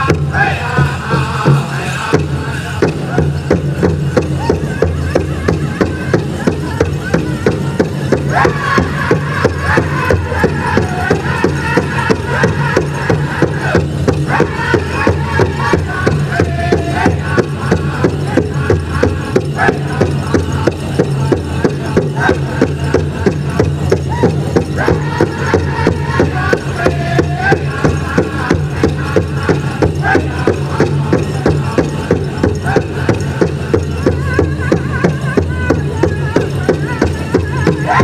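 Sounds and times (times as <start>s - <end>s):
big drum fast beat: 0.0s - 38.0s
group singing high-pitched: 0.0s - 38.0s.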